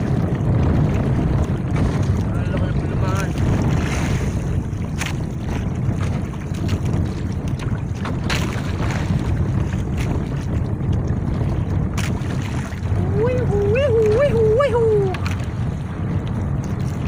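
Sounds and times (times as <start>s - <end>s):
water sloshing against boat: 0.0s - 17.0s
wind buffeting microphone: 0.0s - 17.0s.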